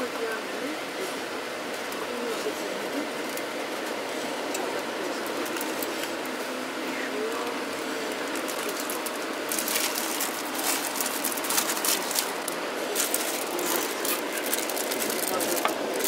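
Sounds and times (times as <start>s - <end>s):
road and engine noise in cabin: 0.0s - 16.0s.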